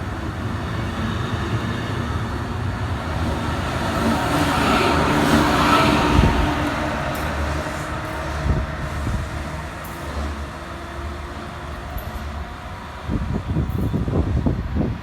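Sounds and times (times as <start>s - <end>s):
commuter train on tracks: 0.0s - 15.0s.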